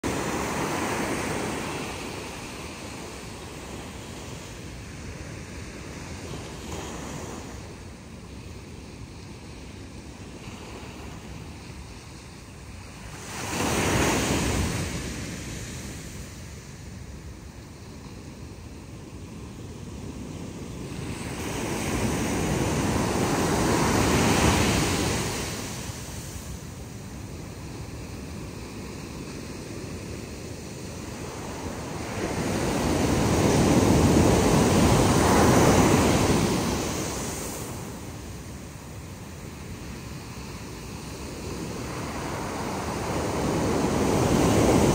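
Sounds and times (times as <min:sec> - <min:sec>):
waves washing up a beach: 0:00.0 - 0:44.9.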